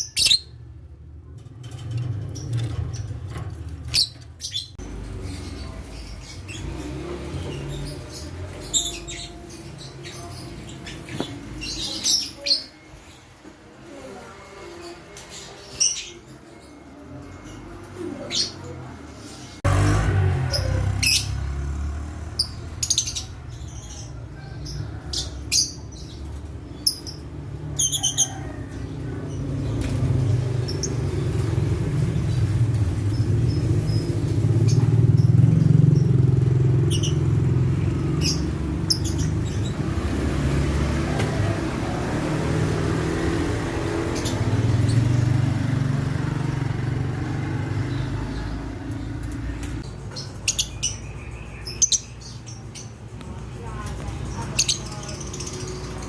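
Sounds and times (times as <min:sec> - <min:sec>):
lovebirds chirping: 0:00.0 - 0:00.8, 0:01.6 - 0:13.3, 0:20.5 - 0:56.0
low vehicle rumble: 0:00.0 - 0:12.3, 0:17.3 - 0:56.0.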